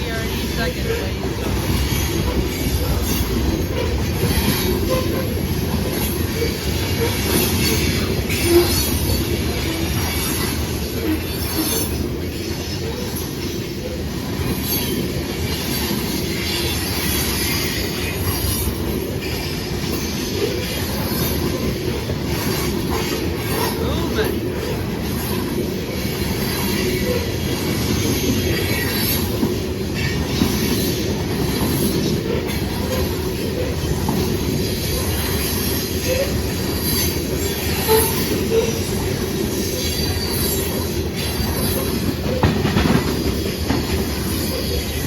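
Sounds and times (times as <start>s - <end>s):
train wheel squeal: 0.0s - 45.0s
train wheels rumbling on rail: 0.0s - 45.0s.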